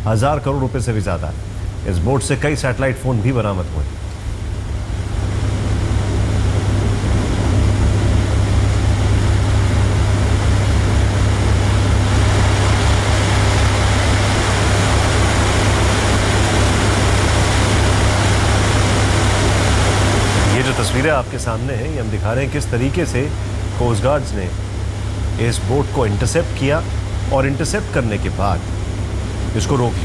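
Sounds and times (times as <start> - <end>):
boat engine droning: 0.0 - 30.0
loud even hiss: 1.2 - 30.0.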